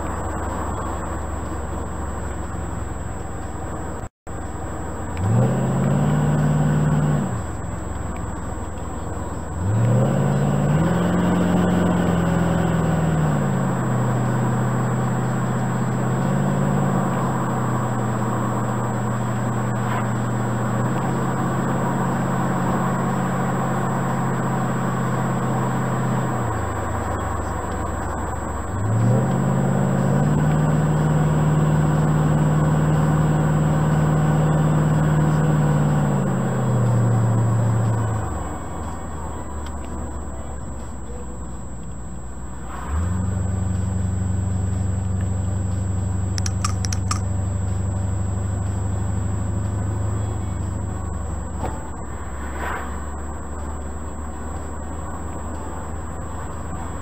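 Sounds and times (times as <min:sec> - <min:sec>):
car engine driving: 0:00.0 - 0:57.0.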